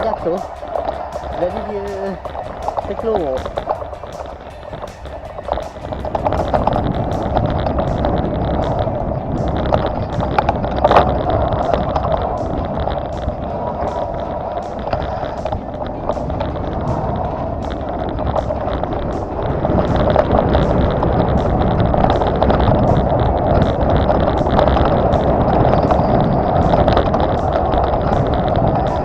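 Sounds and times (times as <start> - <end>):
sharp clicks and rattles: 0.0 - 29.0.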